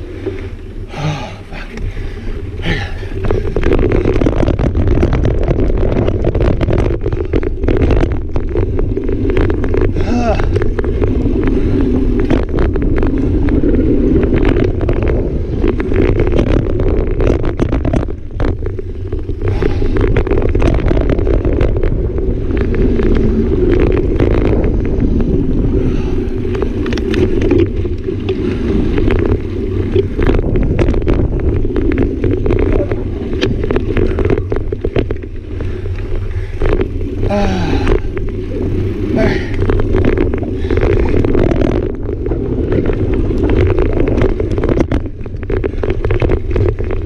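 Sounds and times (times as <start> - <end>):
bike clicks and rattles: 0.0 - 47.0
bike tyre rumble: 0.0 - 47.0
wind rush on microphone: 0.0 - 47.0.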